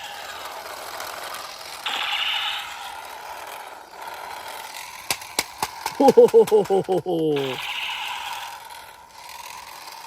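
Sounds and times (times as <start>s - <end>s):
toy gun gears rattling: 0.0s - 10.0s.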